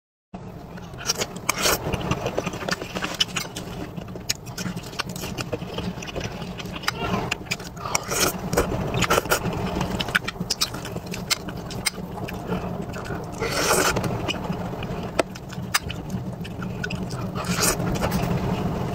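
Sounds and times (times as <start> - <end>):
low rumble: 0.4 - 18.9
chewing: 0.7 - 18.7.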